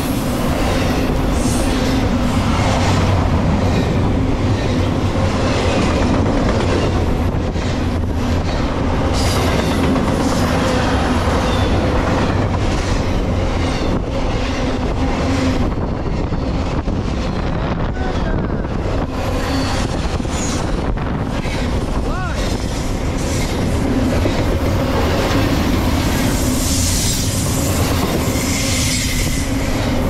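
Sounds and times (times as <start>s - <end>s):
clickety-clack over rail joints: 0.0s - 30.0s
train wheels rumbling on rails: 0.0s - 30.0s.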